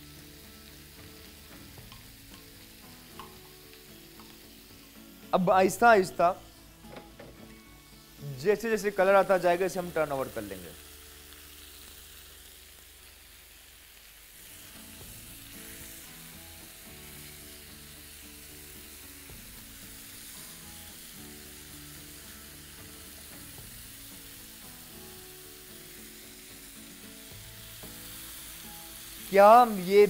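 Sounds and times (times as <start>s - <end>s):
soft background music: 0.0s - 13.5s, 14.3s - 30.0s
chicken sizzling in a pan: 0.0s - 30.0s.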